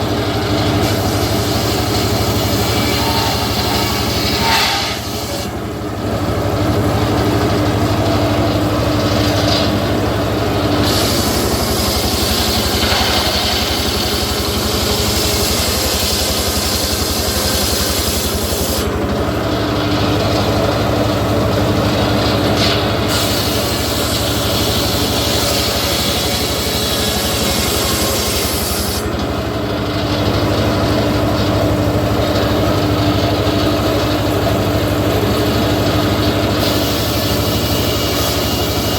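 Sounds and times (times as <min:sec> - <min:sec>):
saw blade cutting wood: 0:00.0 - 0:05.6, 0:07.0 - 0:21.0, 0:21.6 - 0:29.4, 0:30.1 - 0:38.9
engine hum: 0:00.0 - 0:38.9.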